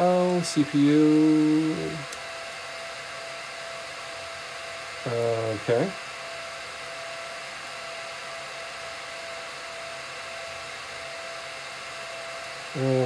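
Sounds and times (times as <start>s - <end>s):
cooling fans whooshing: 0.0s - 13.0s
faint constant whine: 0.0s - 13.0s.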